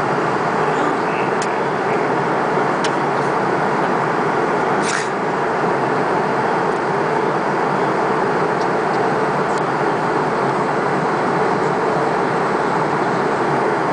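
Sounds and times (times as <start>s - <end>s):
airliner cabin jet noise: 0.0s - 13.9s.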